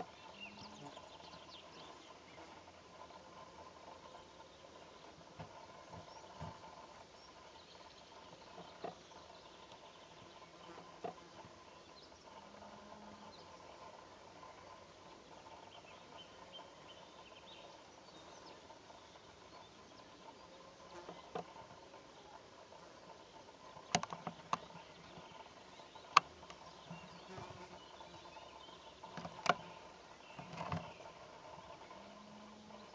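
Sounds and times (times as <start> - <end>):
open-air ambience: 0.0 - 32.9.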